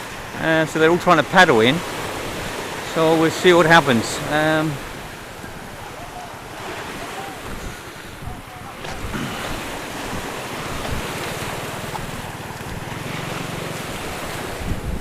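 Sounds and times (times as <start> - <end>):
sea waves washing ashore: 0.0 - 15.0
wind buffeting microphone: 1.4 - 15.0.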